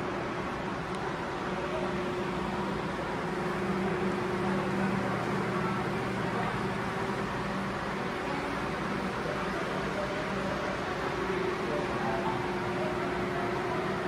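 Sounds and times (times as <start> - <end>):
ventilation hum and hiss: 0.0 - 14.0.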